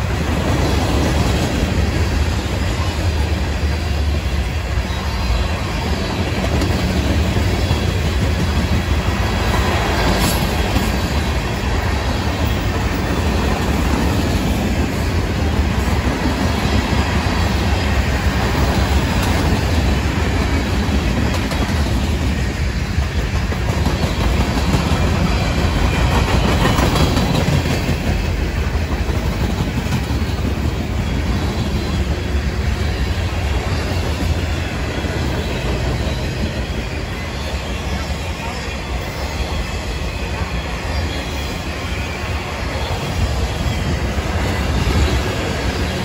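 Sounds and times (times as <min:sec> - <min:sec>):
freight train rolling past: 0:00.0 - 0:46.0.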